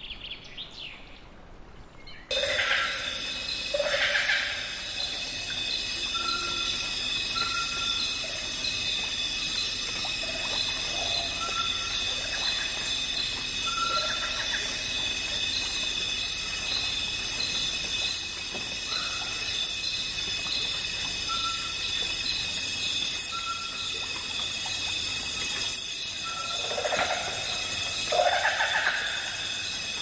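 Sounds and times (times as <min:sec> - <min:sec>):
high insect drone: 0:02.3 - 0:30.0.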